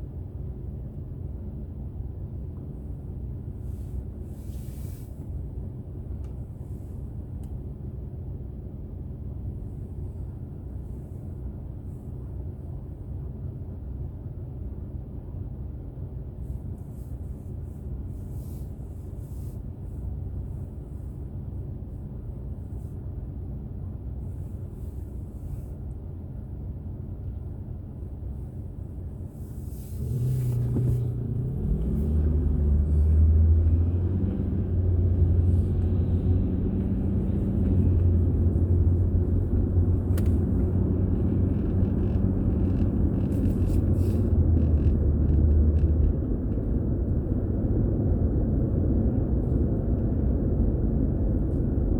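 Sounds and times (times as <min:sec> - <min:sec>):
car engine: 0:00.0 - 0:51.9
road noise: 0:00.0 - 0:51.9.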